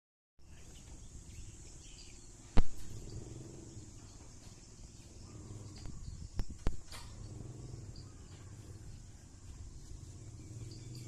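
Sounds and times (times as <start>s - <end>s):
steady high-pitched hum: 0.4s - 11.0s.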